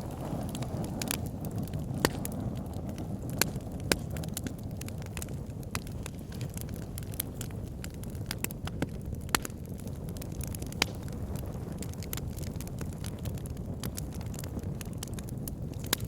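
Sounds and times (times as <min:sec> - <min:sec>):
wood fire burning: 0:00.0 - 0:16.0.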